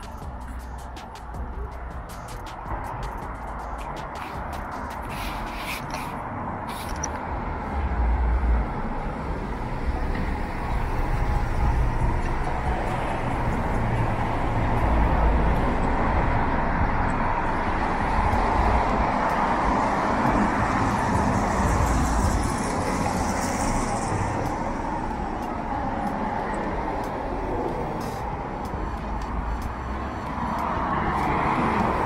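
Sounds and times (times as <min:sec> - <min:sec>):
cars driving past: 0:00.0 - 0:32.0.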